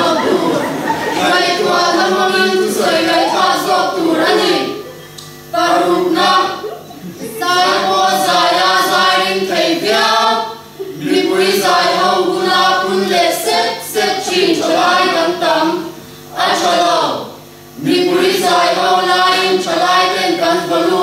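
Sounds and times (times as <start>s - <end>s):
group chanting in unison: 0.0s - 4.9s, 5.5s - 6.6s, 7.2s - 21.0s.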